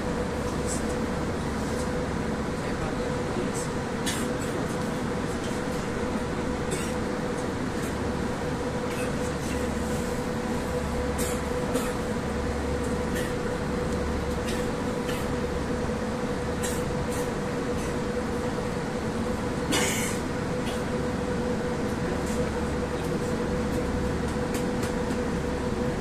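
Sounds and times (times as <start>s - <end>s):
train electrical hum: 0.0s - 26.0s
train running rumble: 0.0s - 26.0s.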